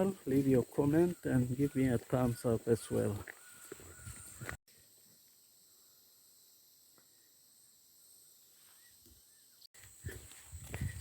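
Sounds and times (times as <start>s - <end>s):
high-pitched insect drone: 0.0s - 11.0s
faint chirps: 0.1s - 10.2s.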